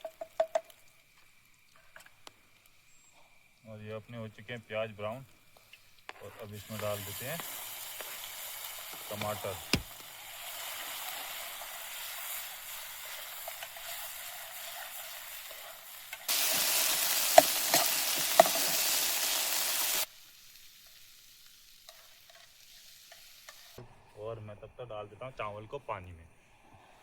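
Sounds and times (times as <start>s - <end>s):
onions frying in oil: 0.0s - 23.8s.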